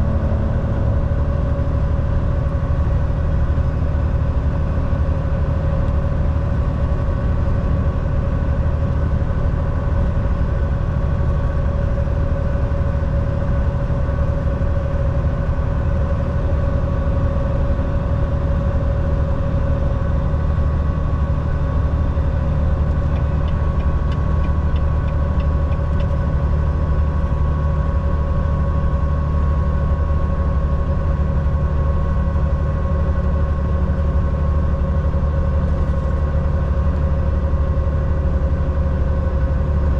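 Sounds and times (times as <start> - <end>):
truck diesel engine and road noise: 0.0 - 39.9.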